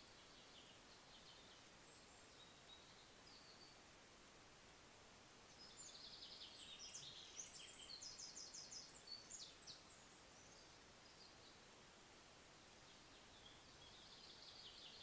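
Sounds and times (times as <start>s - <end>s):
songbird singing trills: 0.0s - 3.8s, 5.5s - 11.7s, 12.8s - 15.0s
microphone hiss: 0.0s - 15.0s.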